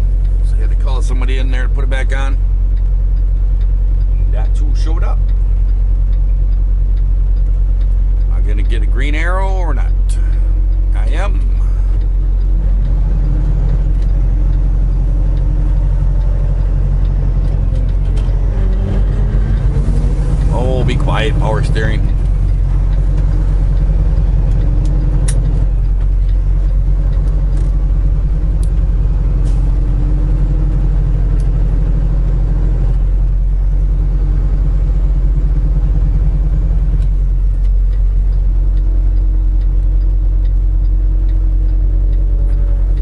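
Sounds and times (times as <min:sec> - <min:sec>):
truck engine and road rumble: 0:00.0 - 0:43.0.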